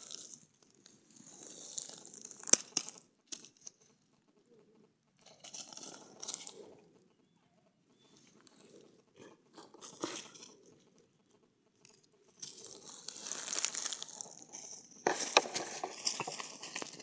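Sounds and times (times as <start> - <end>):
crunching and crinkling: 0.0 - 4.1, 5.2 - 7.0, 7.9 - 11.1, 11.7 - 17.0.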